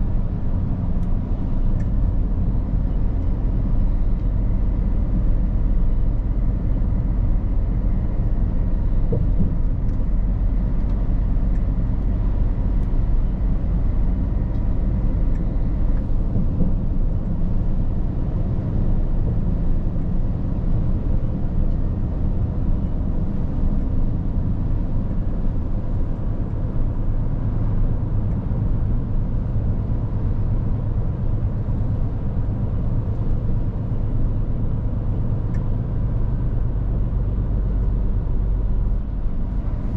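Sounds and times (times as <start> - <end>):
truck diesel engine rumbling: 0.0 - 39.9.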